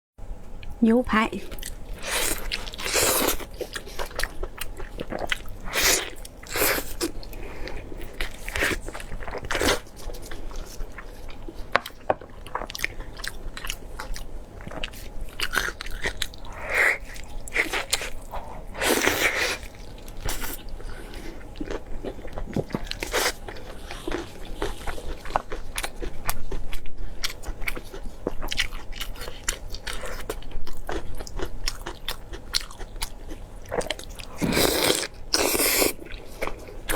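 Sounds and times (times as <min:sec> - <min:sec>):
chewing and biting food: 0:01.5 - 0:36.9.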